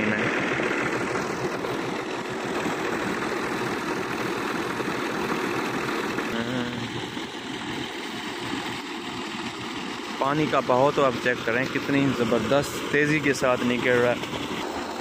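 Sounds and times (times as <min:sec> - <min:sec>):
tractor diesel engine running: 0:00.0 - 0:15.0
water gushing from pipe: 0:00.0 - 0:15.0.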